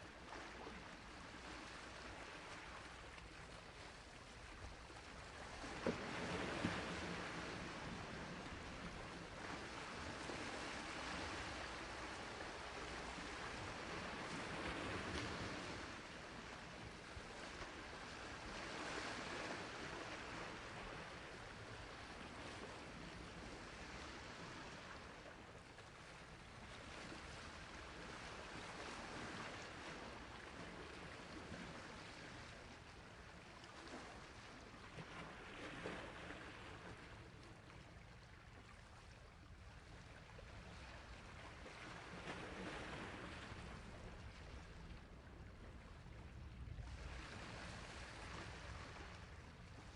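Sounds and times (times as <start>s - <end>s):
sea waves washing on shore: 0.0s - 37.6s, 39.9s - 49.9s.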